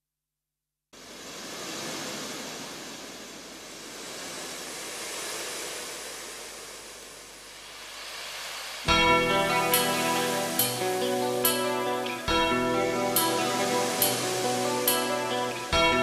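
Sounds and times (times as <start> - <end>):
sea waves washing: 1.0 - 16.0.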